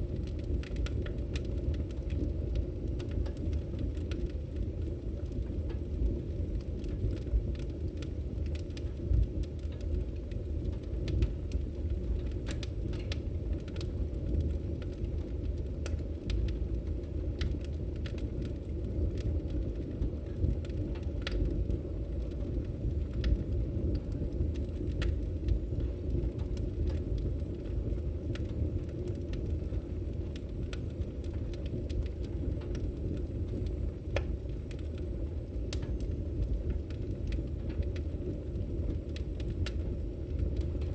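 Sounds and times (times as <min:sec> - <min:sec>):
fire pops and snaps: 0:00.0 - 0:40.9
low rumble of flames: 0:00.0 - 0:40.9.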